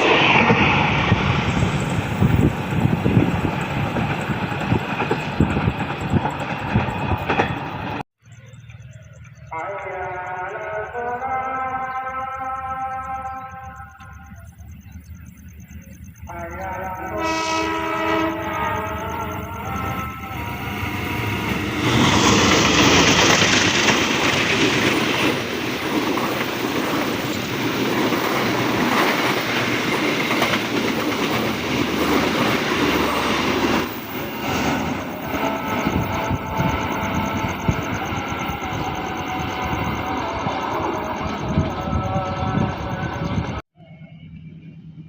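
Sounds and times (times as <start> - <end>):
train passing close by: 0.0 - 45.0.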